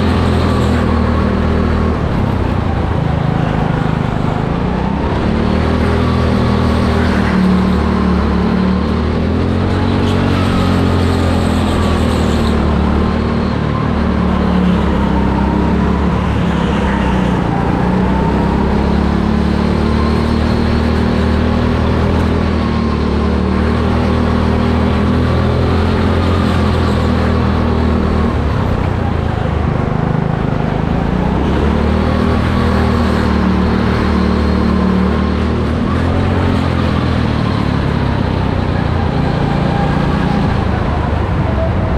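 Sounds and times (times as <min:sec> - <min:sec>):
go-kart engine revving: 0:00.0 - 0:41.9.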